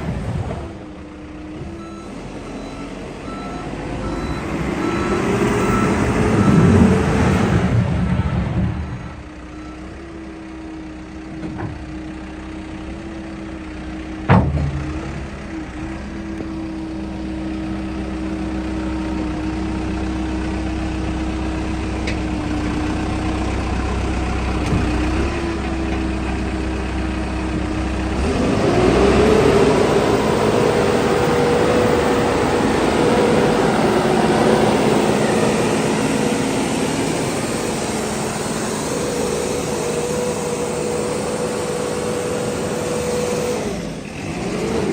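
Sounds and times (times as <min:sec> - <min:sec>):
diesel engine idling and revving: 0:00.0 - 0:44.9.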